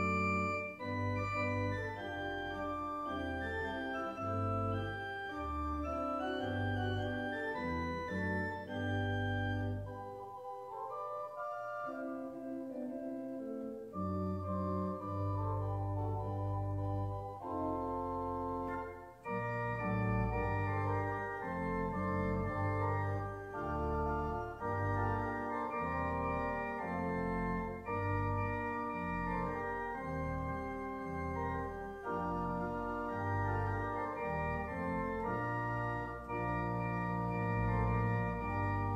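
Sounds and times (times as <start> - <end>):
deep organ bass line: 0.0 - 10.3, 14.0 - 38.9
organ playing slow chords: 0.0 - 38.9.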